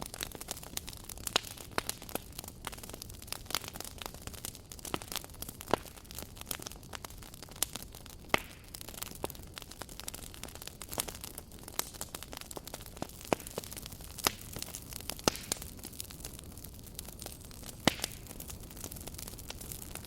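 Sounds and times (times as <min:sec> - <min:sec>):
campfire crackling and hissing: 0:00.0 - 0:20.0
loud fire pops: 0:00.0 - 0:20.0.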